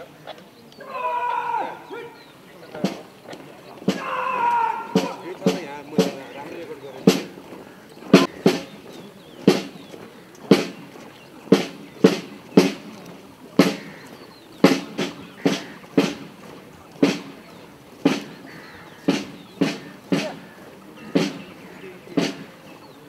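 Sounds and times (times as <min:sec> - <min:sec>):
boots stamping on pavement: 0:02.6 - 0:23.0.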